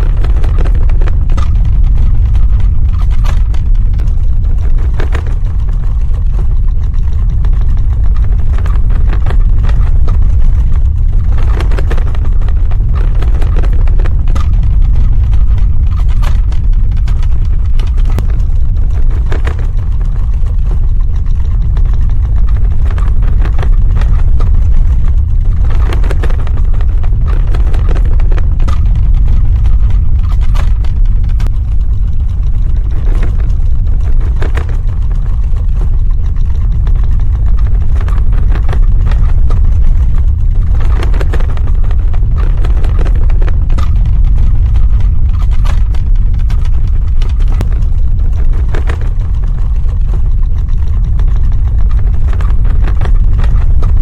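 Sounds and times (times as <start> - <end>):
cracks and crackles: 0.0 - 54.0
deep earthquake rumble: 0.0 - 54.0.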